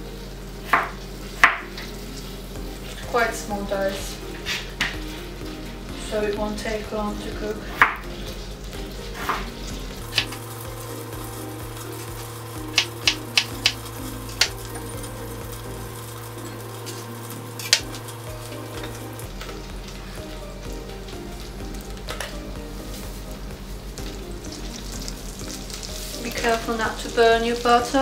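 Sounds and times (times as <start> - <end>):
butter sizzling in a pan: 0.0 - 28.0.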